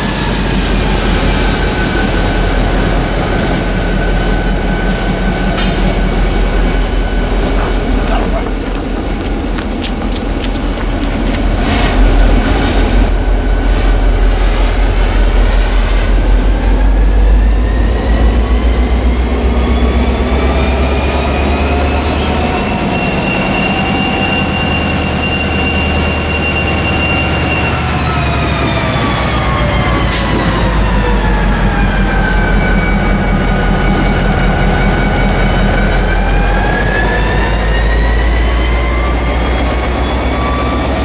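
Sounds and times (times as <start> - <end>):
train heavy low rumble: 0.0 - 41.0
train whine changing pitch: 0.0 - 41.0.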